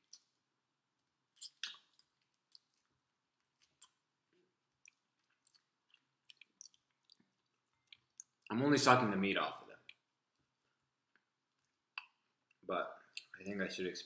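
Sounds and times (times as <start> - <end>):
quiet chewing: 1.0 - 8.6, 9.7 - 13.5.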